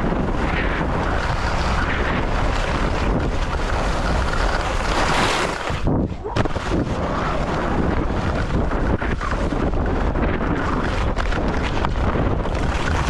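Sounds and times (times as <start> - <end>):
skis sliding across snow: 0.0 - 13.0
wind buffeting microphone: 0.0 - 13.0.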